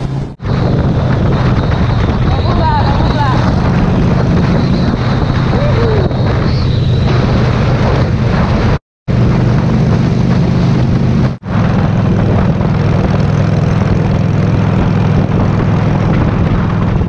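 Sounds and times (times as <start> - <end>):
motorcycle engine cruising: 0.0 - 17.0
wind rushing over microphone: 0.0 - 17.0.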